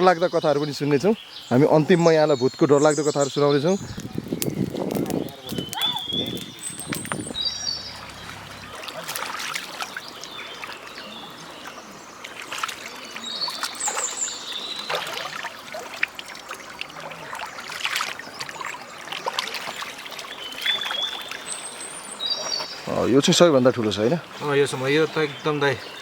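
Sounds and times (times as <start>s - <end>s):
water trickling in a stream: 2.9s - 25.3s.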